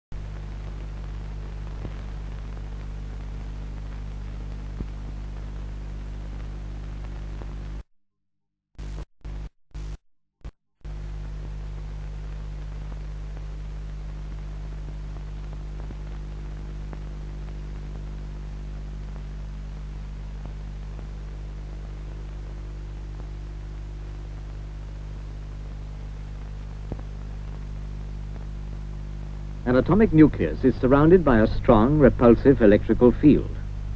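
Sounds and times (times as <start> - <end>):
electrical hum with hiss: 0.1 - 7.8, 10.9 - 33.9.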